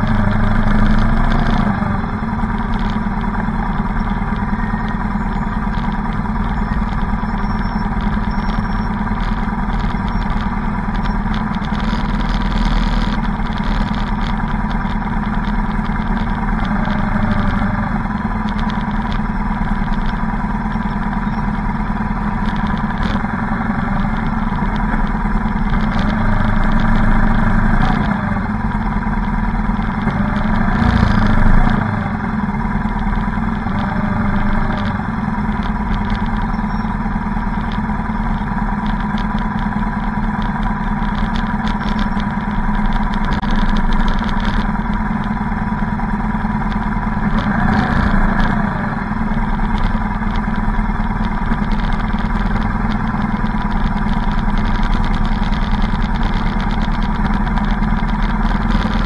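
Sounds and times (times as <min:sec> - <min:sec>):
motorcycle engines running: 0:00.0 - 0:59.0.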